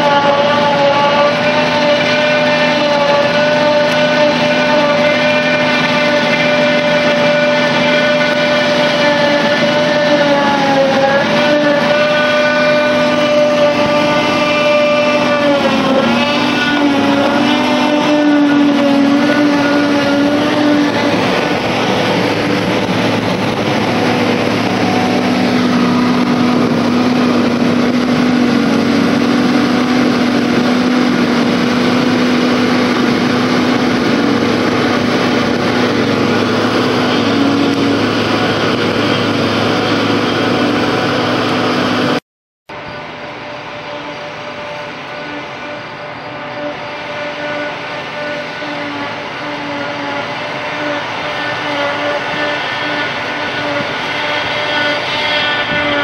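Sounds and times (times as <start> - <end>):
forage harvester droning: 0.0 - 56.0
tractor engine: 0.0 - 56.0.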